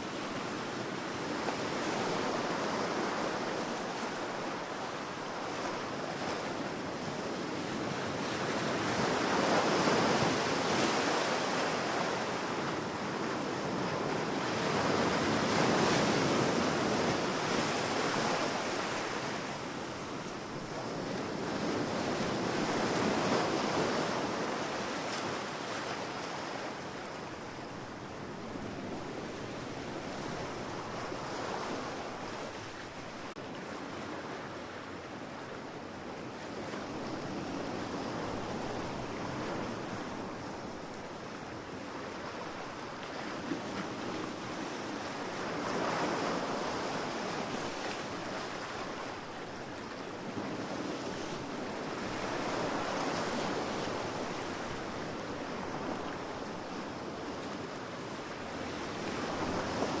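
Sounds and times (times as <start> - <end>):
waves breaking on shore: 0.0 - 60.0.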